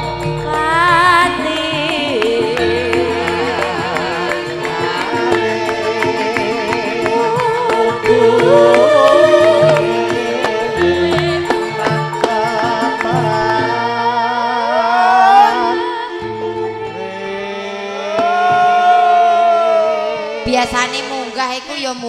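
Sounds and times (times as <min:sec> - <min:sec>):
gamelan ensemble playing: 0:00.0 - 0:18.5
woman singing into microphone: 0:00.0 - 0:19.1.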